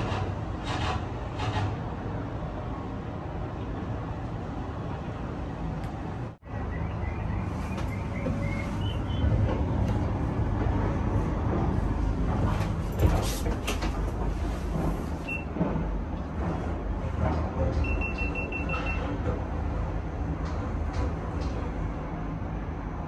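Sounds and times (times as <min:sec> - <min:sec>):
cable car cabin rumbling: 0:00.0 - 0:23.0.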